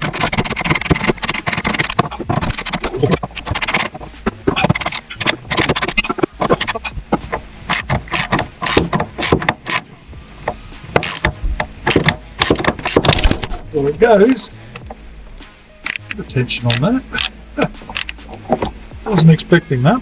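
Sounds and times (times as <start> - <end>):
wrench clicking and knocking: 0.0 - 9.9, 10.5 - 13.5, 14.3 - 15.0, 15.8 - 18.8.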